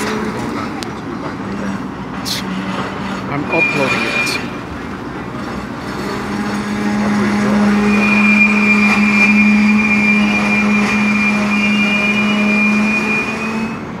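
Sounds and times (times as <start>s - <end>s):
train cars rolling with low hum: 0.0s - 14.0s
wheels and brakes squealing: 0.0s - 14.0s.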